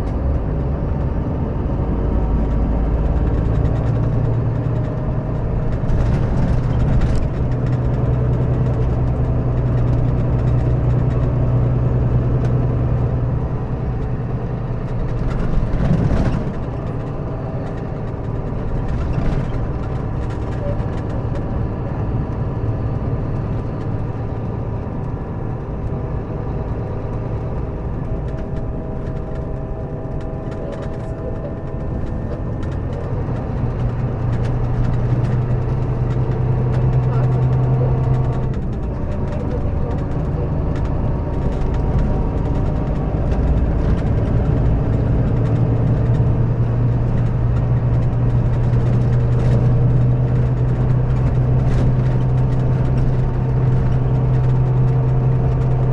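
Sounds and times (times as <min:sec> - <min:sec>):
bus diesel engine idling: 0:00.0 - 0:55.9.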